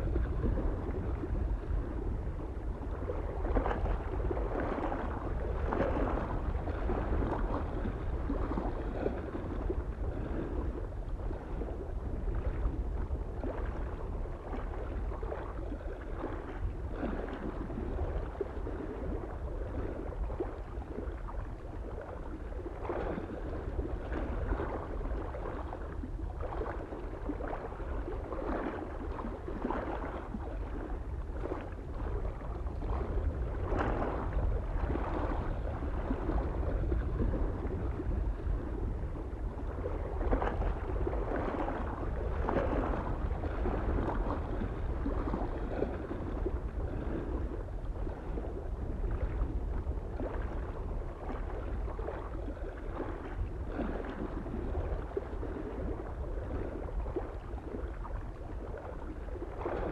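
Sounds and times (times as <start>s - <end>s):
small waves lapping on shore: 0.0s - 59.9s
soft wind rumble: 0.0s - 59.9s.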